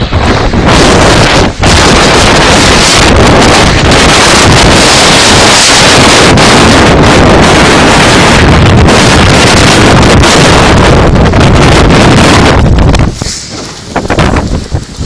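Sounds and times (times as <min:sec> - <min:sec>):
wind blasting microphone: 0:00.0 - 0:15.0.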